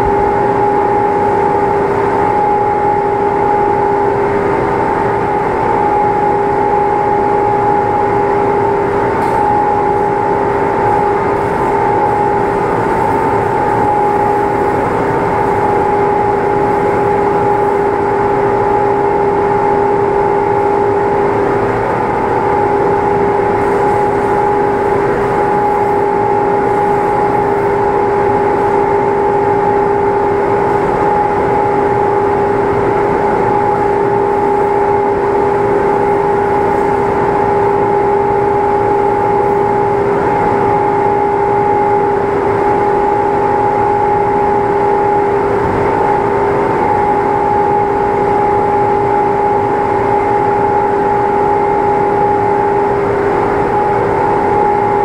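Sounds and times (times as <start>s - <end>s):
machine humming: 0.0s - 55.0s.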